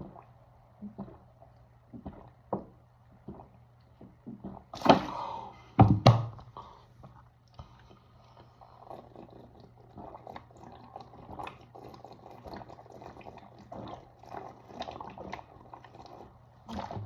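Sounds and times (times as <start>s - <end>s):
gulping clicks: 0.0s - 4.8s, 7.0s - 17.0s.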